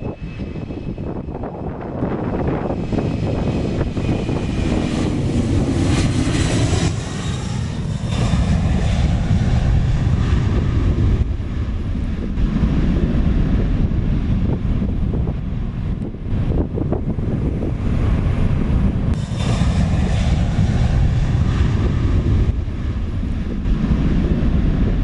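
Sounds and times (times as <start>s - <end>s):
high engine whine: 0.0s - 25.0s
jet engine roar: 0.0s - 25.0s.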